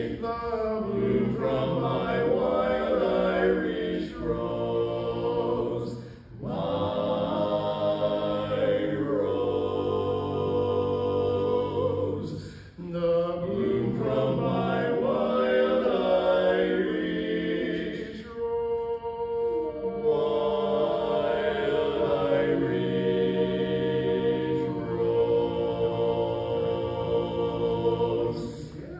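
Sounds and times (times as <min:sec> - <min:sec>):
vocal quartet singing a cappella: 0:00.0 - 0:28.9.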